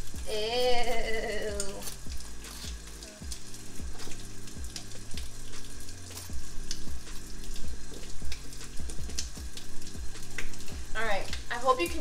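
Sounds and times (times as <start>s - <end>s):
background music with steady beat: 0.0s - 12.0s
faucet running into steel sink: 0.0s - 12.0s.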